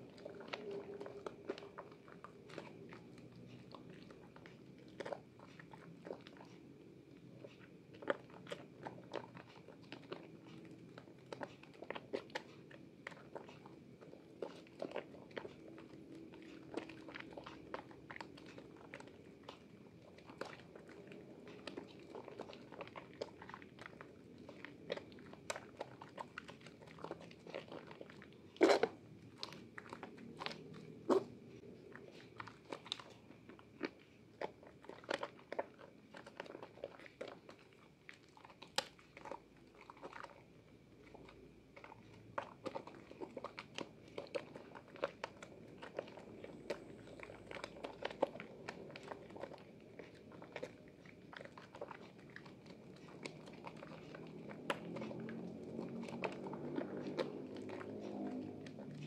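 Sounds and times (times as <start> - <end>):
hand squelching soap lather: 0.0 - 59.0.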